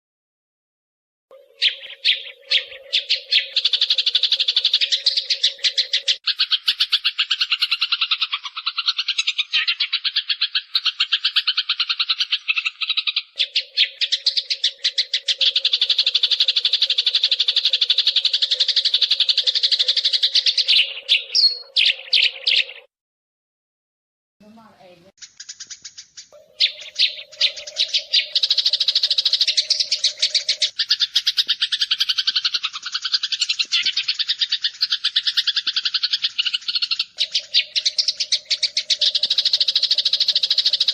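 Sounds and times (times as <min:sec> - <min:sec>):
sparrows chirping: 0:01.3 - 0:22.9, 0:24.4 - 0:40.9.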